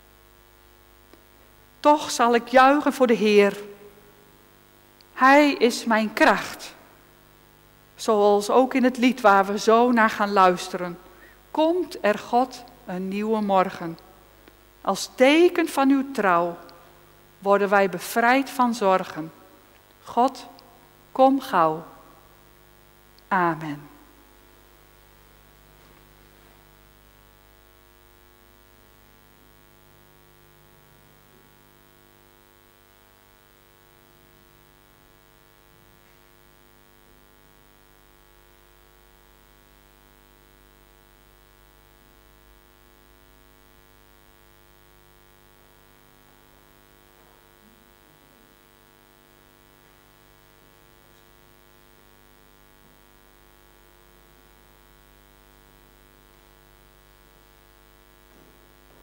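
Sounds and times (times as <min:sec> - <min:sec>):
faint electrical mains hum: 0:00.0 - 0:59.0.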